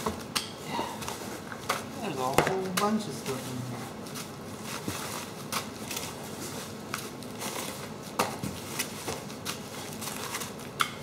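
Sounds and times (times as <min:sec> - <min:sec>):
plastic wrapping crinkling: 0:01.1 - 0:10.8.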